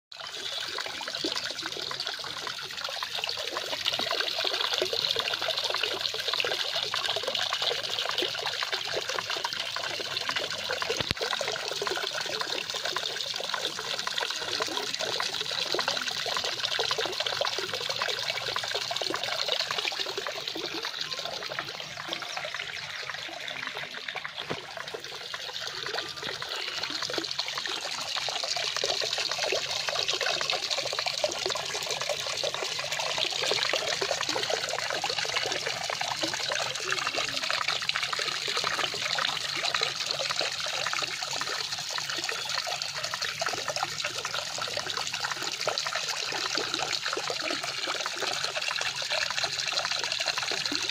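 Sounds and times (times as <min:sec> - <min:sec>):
water splashing into fountain basin: 0:00.1 - 0:50.9.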